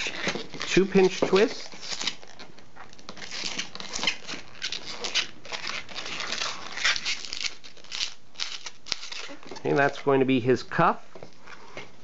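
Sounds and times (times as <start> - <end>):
balloon rubbing and squeaking: 0.0 - 10.0.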